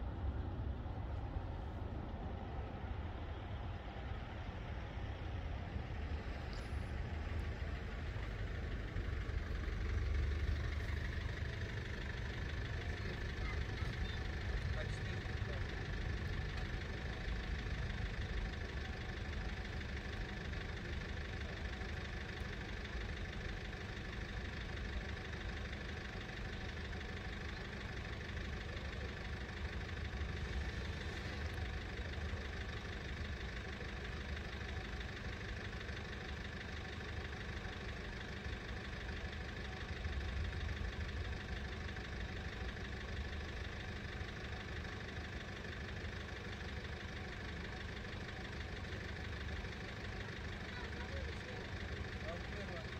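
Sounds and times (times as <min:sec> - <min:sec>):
car engines idling: 0:00.0 - 0:52.9.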